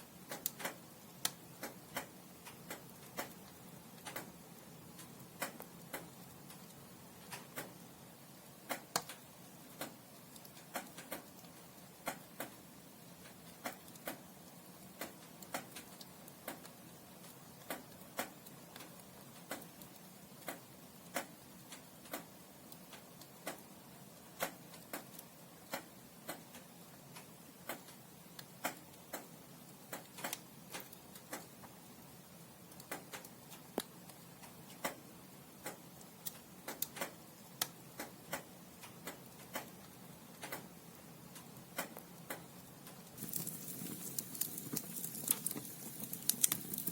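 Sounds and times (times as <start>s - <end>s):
firewood crackling: 0.0s - 27.0s, 27.7s - 46.9s.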